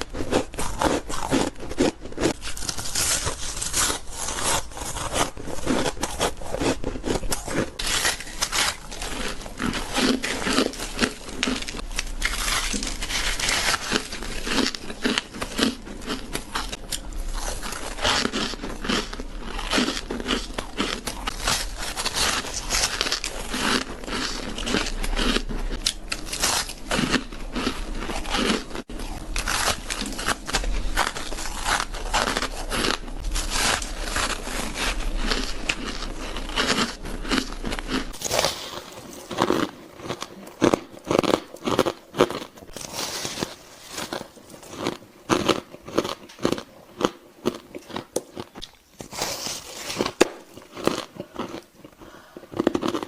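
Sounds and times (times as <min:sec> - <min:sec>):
ice being crunched and chewed: 0:00.0 - 0:53.0.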